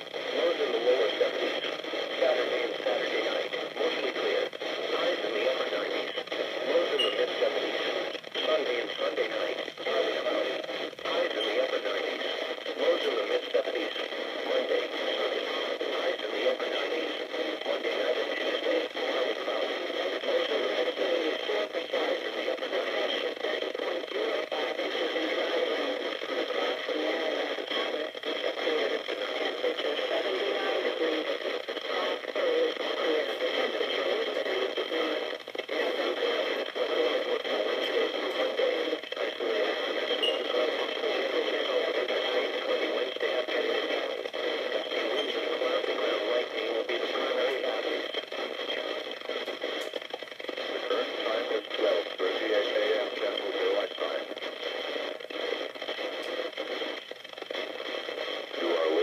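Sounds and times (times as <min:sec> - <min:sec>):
radio static crackling: 0:00.0 - 0:59.0.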